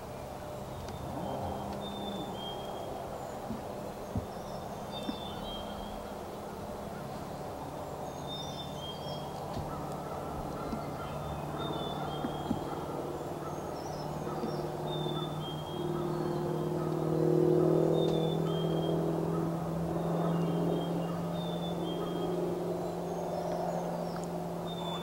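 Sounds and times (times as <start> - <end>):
small birds whistling: 0.0 - 19.0, 19.9 - 25.0
steady low drone: 0.0 - 25.0.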